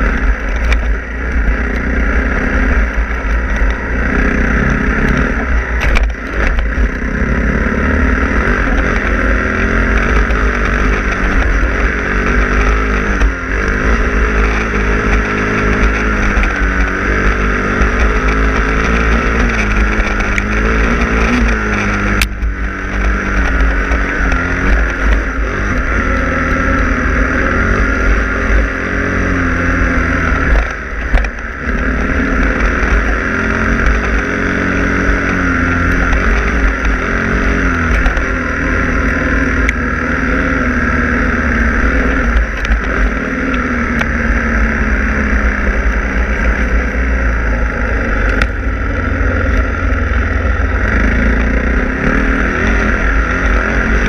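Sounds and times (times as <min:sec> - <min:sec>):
dirt bike engine revving: 0:00.0 - 0:54.0
wind rumble on microphone: 0:00.0 - 0:54.0.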